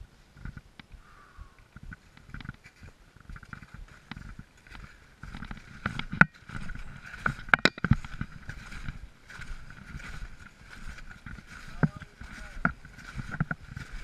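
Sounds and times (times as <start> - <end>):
snowshoe footsteps crunching in snow: 0.0 - 14.0
trekking poles clicking: 0.3 - 14.0.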